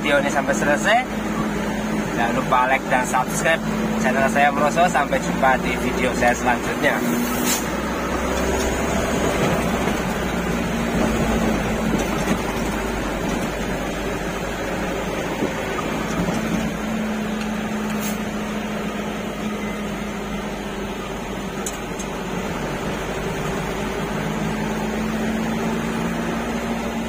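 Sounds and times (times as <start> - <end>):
road noise: 0.0 - 27.0
truck engine running: 0.0 - 27.0.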